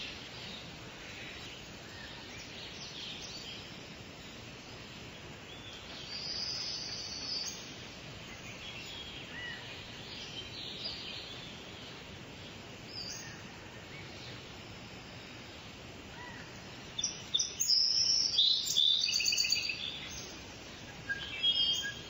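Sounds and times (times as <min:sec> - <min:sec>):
songbirds calling: 0:00.0 - 0:22.0
steady background noise: 0:00.0 - 0:22.0.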